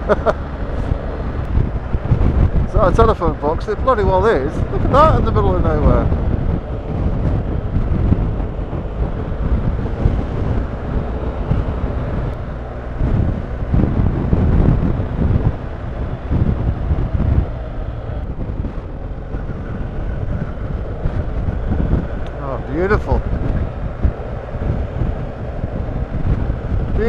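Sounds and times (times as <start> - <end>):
motorcycle engine running: 0.0 - 27.0
road noise: 0.0 - 27.0
wind buffeting microphone: 0.0 - 27.0.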